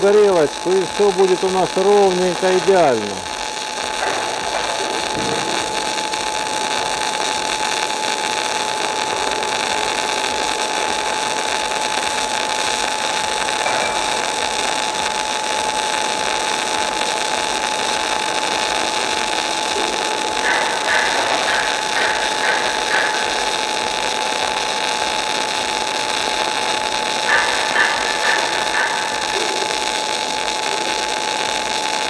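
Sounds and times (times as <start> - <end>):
welding arc hiss and crackle: 0.0 - 32.0.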